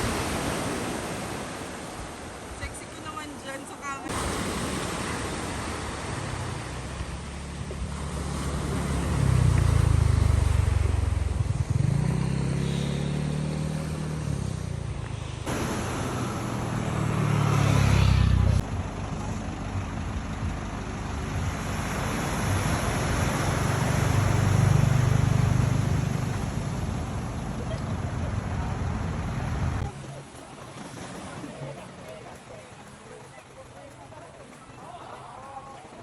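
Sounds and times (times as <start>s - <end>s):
road or wind noise: 0.0s - 32.0s
vehicle engine running: 4.9s - 36.0s.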